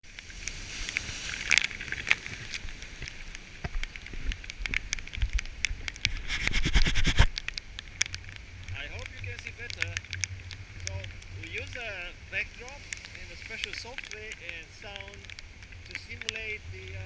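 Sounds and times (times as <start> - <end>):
water droplets crackling on housing: 0.0 - 17.0.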